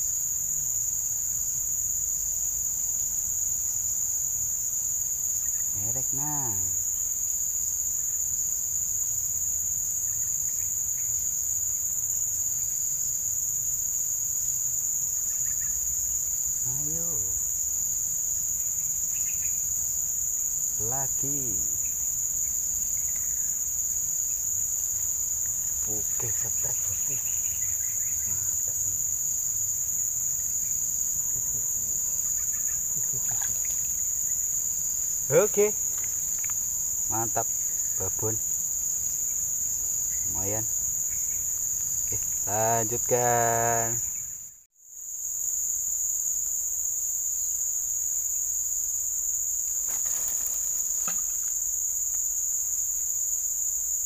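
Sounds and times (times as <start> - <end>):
insects chorus drone: 0.0 - 54.0.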